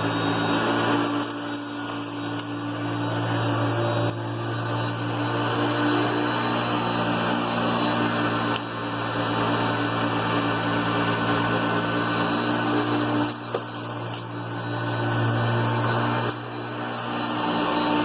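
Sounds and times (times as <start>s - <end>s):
upright vacuum cleaner running: 0.0s - 18.0s.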